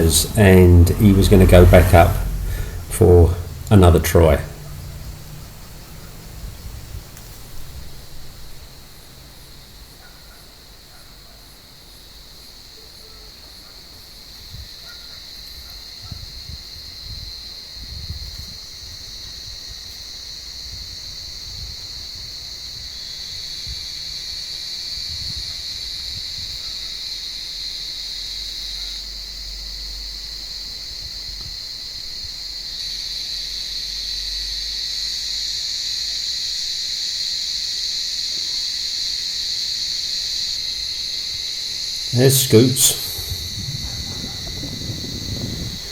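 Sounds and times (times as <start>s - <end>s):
cicadas buzzing: 0.0s - 45.9s.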